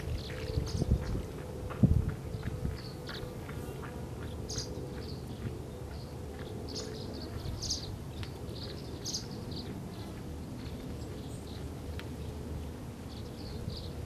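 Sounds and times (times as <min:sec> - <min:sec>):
swallows chirping: 0:02.7 - 0:14.0.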